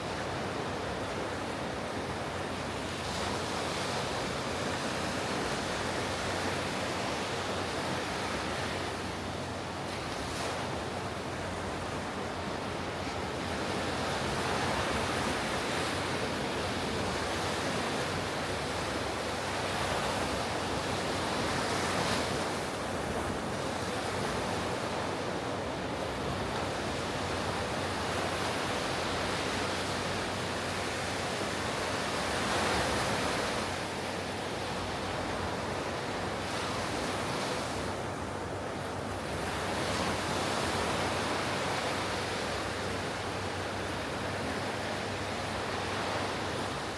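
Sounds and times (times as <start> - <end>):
ocean waves breaking: 0.0 - 46.9.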